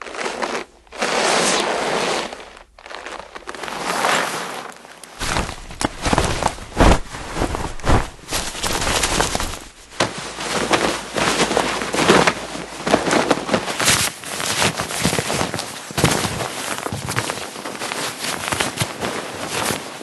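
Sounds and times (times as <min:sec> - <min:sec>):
clothing fabric rustling: 0:00.0 - 0:20.0.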